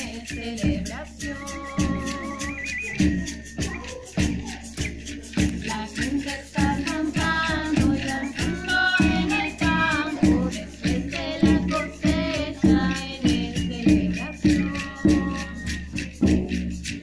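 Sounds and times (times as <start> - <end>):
women singing together: 0.0 - 4.8, 5.4 - 15.9
frame drum beat: 0.0 - 17.0.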